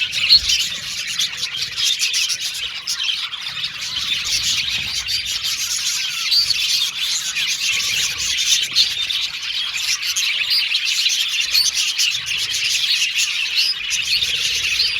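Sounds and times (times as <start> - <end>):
budgerigars chirping and warbling: 0.0 - 14.9.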